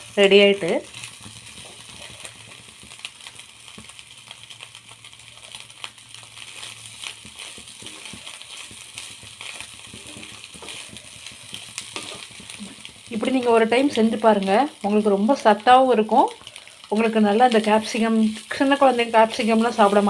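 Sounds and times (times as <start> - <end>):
stir-fry sizzling in a pan: 0.0 - 20.0.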